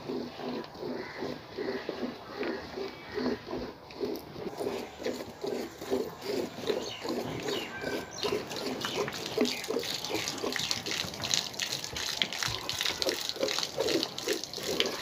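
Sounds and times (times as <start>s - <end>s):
milk squirting into pail: 0.1s - 15.0s.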